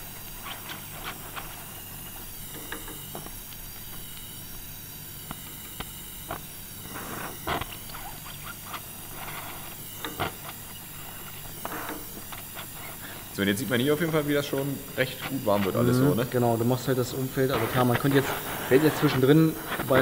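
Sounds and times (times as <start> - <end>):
gas torch flame hissing: 0.0 - 20.0
solder sizzling and crackling: 0.0 - 20.0.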